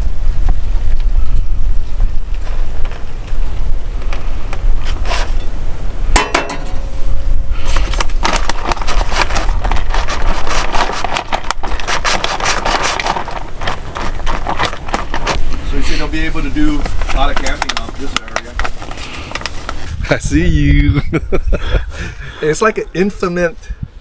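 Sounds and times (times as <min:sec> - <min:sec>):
crackling and scraping noises: 0:00.0 - 0:20.1
wind buffeting microphone: 0:00.0 - 0:24.0.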